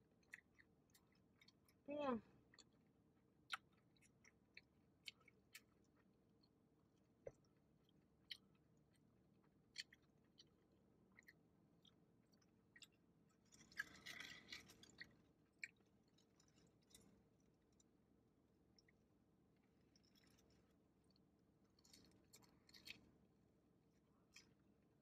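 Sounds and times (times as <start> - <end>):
chewing with wet mouth clicks: 0.0 - 1.8, 2.4 - 18.0, 18.7 - 23.1, 24.0 - 24.8.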